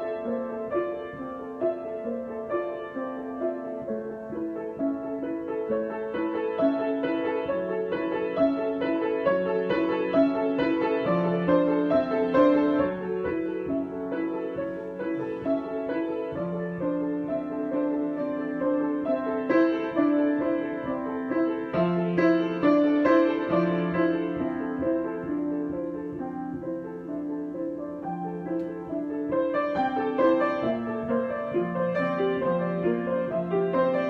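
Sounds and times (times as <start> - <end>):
solo piano: 0.0 - 34.0.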